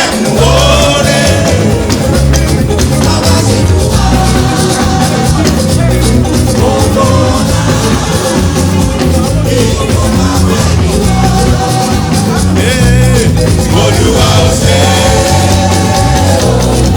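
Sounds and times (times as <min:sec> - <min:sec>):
band with bass and drums: 0:00.0 - 0:16.9
church choir singing: 0:00.0 - 0:16.9.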